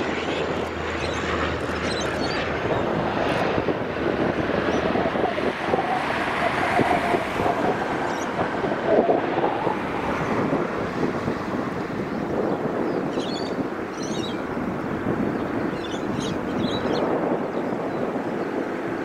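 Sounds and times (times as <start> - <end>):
turboprop engine drone: 0.0 - 19.0
wind on microphone: 0.0 - 19.0.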